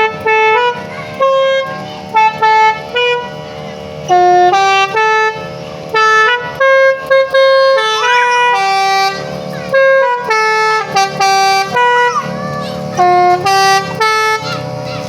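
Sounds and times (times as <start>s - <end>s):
musical truck horn playing a tune: 0.0s - 15.0s.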